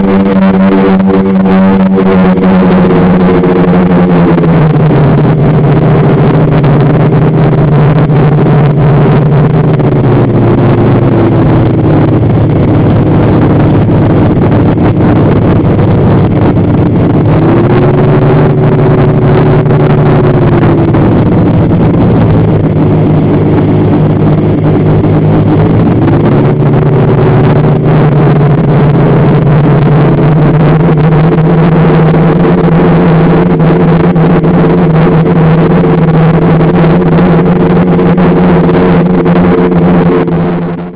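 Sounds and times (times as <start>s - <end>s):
rushing noise: 0.0s - 40.9s.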